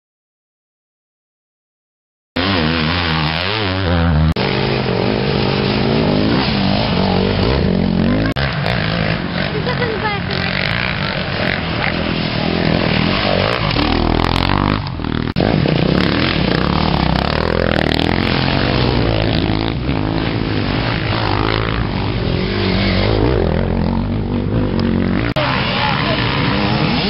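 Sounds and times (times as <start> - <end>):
dirt bike engines revving: 2.4 - 27.0.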